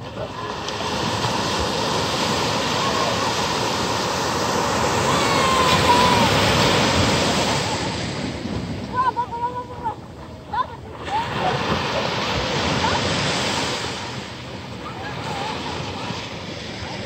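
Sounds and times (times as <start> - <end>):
small waves breaking on beach: 0.0 - 17.0.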